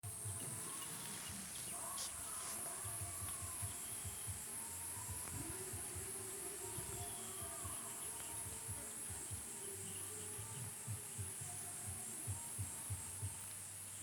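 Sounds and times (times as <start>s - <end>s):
crickets trilling: 0.1s - 14.0s.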